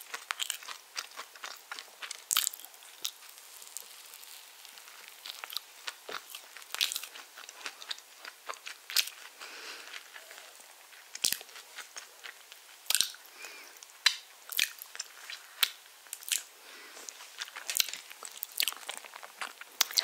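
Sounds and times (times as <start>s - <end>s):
biting and chewing: 0.0s - 3.2s, 5.0s - 13.2s, 14.5s - 20.0s.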